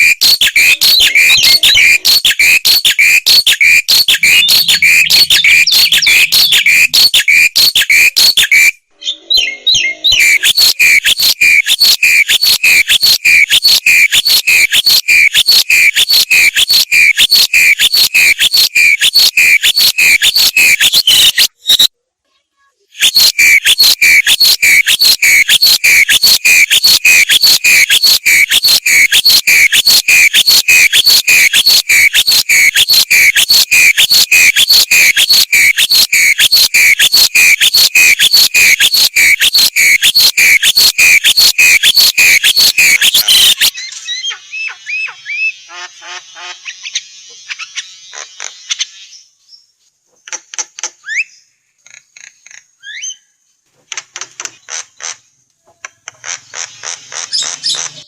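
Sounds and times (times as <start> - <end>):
fast repeated croaking call: 0.0 - 8.8, 9.9 - 21.9, 23.0 - 48.6, 51.8 - 53.0, 54.2 - 58.0
bird chirps and whistles: 0.0 - 21.9, 22.9 - 49.0, 52.8 - 53.3.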